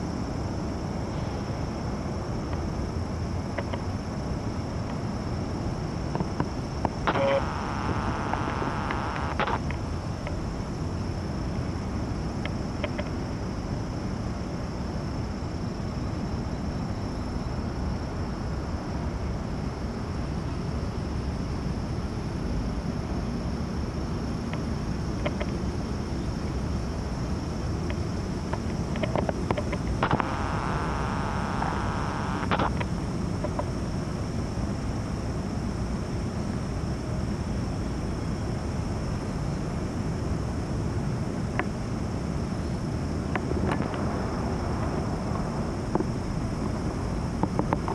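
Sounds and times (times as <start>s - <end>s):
low outdoor rumble: 0.0s - 17.0s, 21.4s - 47.9s.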